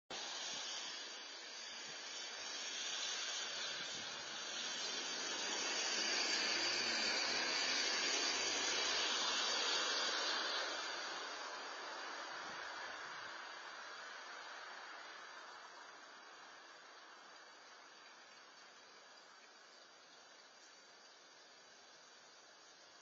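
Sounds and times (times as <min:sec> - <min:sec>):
steady hiss of wet ambience: 0:00.1 - 0:23.0.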